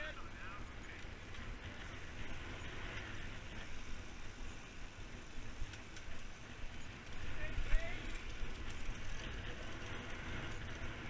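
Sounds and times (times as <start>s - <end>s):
bike tyres rolling on concrete: 0.0s - 11.0s.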